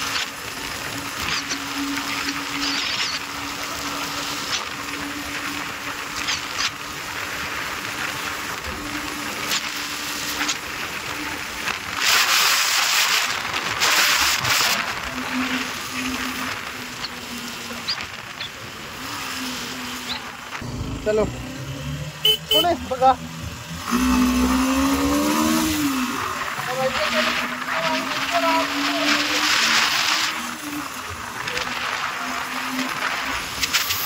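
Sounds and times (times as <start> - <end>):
faint motorcycle engine drone: 0.0 - 34.0.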